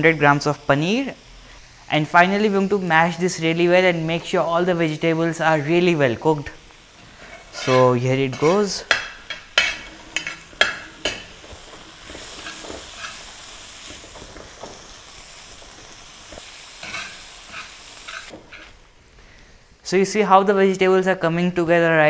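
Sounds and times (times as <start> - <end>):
food sizzling in pan: 0.0 - 19.8.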